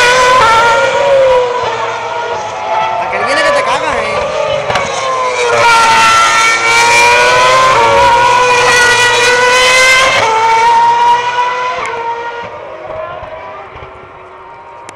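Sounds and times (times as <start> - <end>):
racing car engine passing: 0.0 - 14.9.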